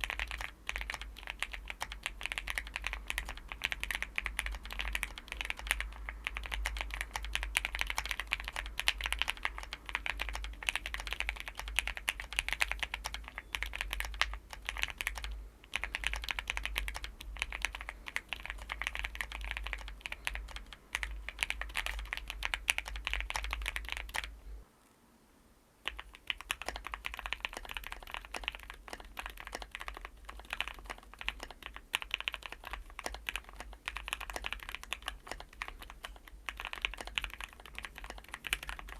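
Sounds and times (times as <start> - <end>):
fast mechanical keyboard typing: 0.0 - 24.3, 25.8 - 38.9.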